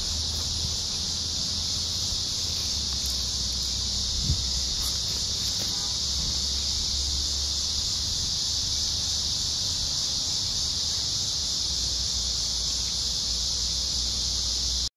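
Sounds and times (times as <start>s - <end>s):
insects chorus buzzing: 0.0s - 14.9s.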